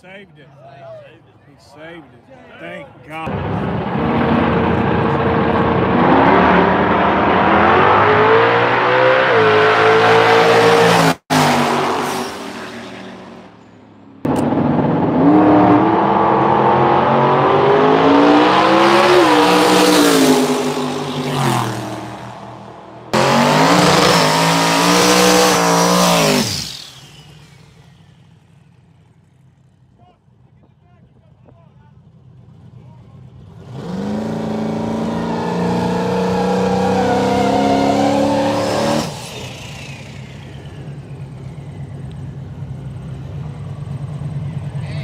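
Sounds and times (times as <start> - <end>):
race car engines at full throttle: 2.0 - 45.0.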